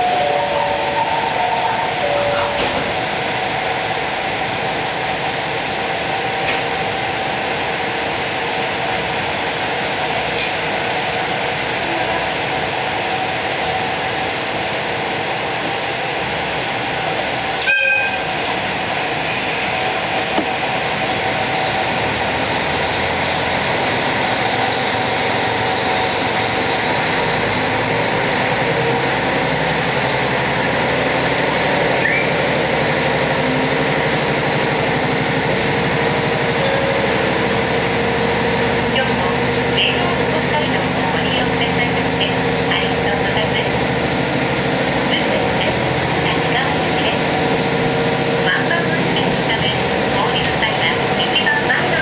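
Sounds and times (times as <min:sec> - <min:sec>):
diesel railcar engine: 0:00.0 - 0:52.0.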